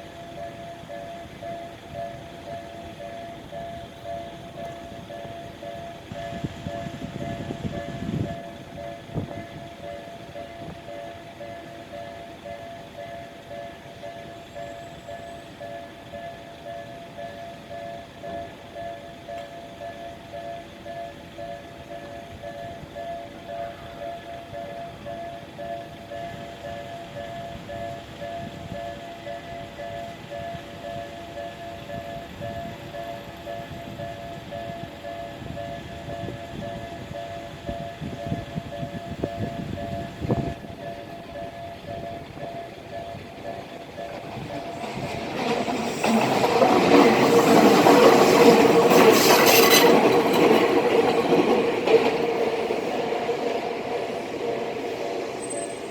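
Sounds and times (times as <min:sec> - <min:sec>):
two-tone crossing alarm bell: 0:00.0 - 0:54.2, 0:54.8 - 0:55.9
train rumbling: 0:00.0 - 0:55.9.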